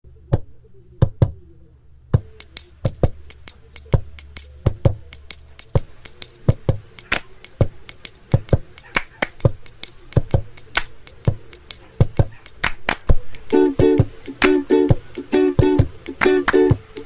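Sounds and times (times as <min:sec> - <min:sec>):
acoustic reggae music: 0:02.2 - 0:17.0
percussion clicks: 0:02.2 - 0:17.0.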